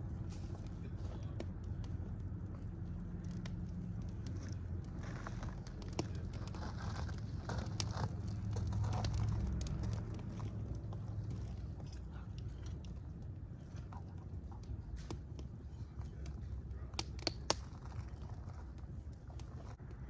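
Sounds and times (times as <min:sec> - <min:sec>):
wood fire burning: 0:00.0 - 0:20.0.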